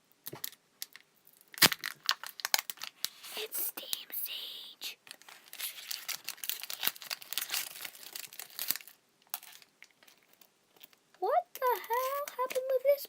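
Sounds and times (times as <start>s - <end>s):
plastic wrapper crinkling and tearing: 0.2s - 13.0s.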